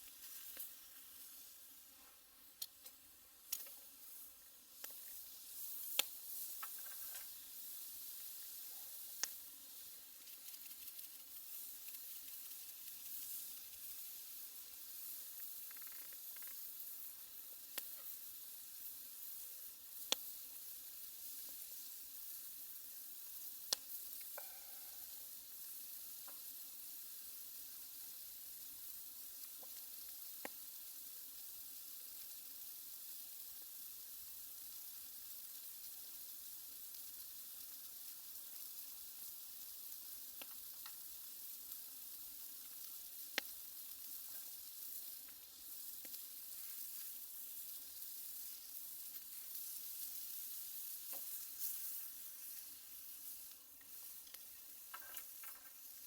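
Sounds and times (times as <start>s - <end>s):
meat sizzling on a grill plate: 0.0s - 56.0s.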